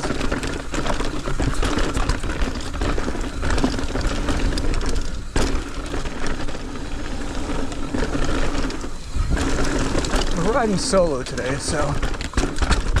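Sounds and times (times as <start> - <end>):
bike rattling clicks: 0.0 - 13.0
bike tyres on dirt and rocks: 0.0 - 13.0
wind rumbling on microphone: 0.0 - 13.0.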